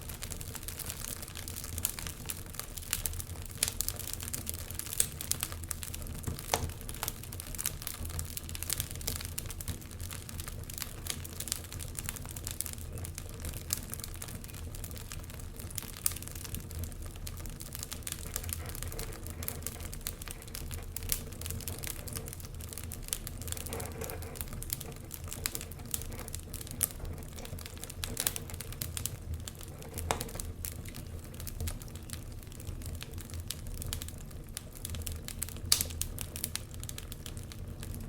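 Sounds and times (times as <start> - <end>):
low fire rumble: 0.0 - 38.0
wood fire crackling and popping: 0.0 - 38.0.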